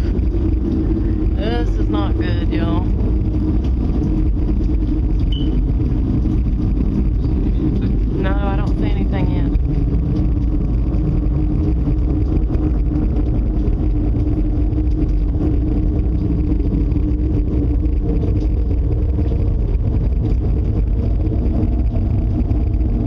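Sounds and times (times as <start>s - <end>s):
droning hum: 0.0s - 23.0s
low rumble: 0.0s - 23.0s.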